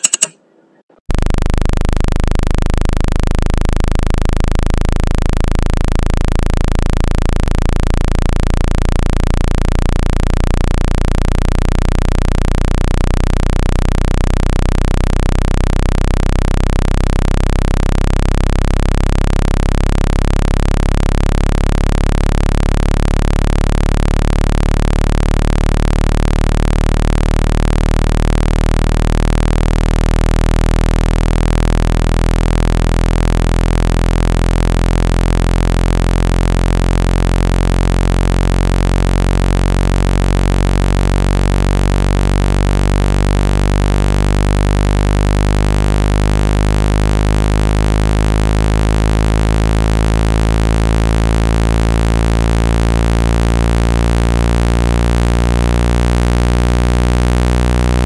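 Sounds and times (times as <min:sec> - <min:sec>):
deep electronic hum: 0:01.1 - 0:58.0.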